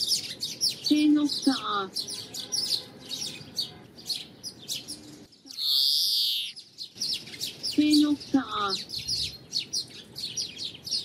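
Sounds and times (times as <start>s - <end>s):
greenfinch twittering chirps: 0.0s - 11.0s.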